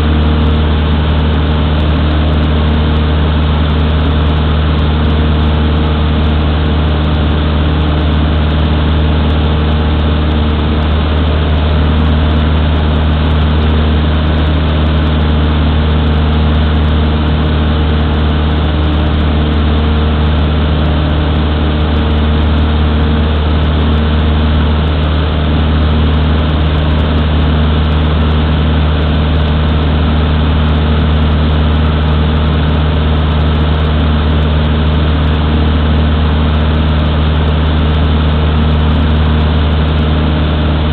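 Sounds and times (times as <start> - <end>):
small plane engine and propeller: 0.0 - 40.9.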